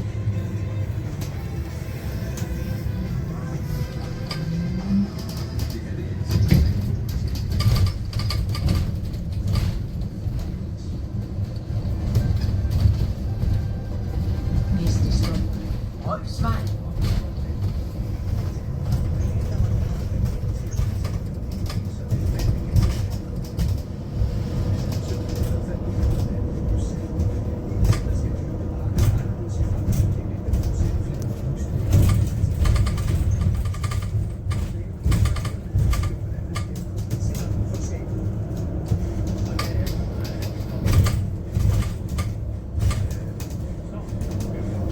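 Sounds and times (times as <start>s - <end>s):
bus cabin low rumble: 0.0s - 44.9s
body rattles and knocks: 5.2s - 44.9s.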